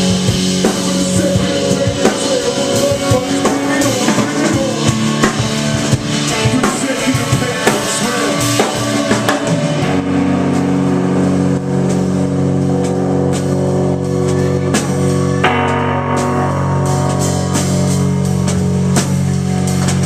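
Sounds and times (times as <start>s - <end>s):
drums: 0.0s - 20.0s
guitar chords: 0.0s - 20.0s.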